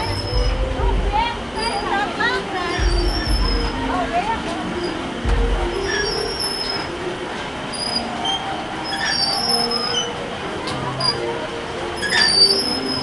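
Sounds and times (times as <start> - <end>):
high metallic squeals: 0.0 - 0.7, 1.5 - 4.0, 4.7 - 13.0
carousel mechanism rumbling: 0.0 - 13.0.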